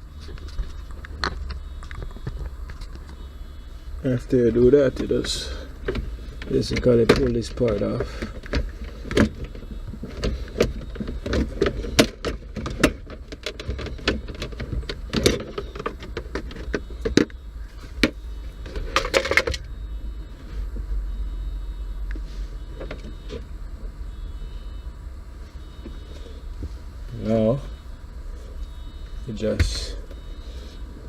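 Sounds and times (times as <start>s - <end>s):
quiet low rumble: 0.0s - 31.0s.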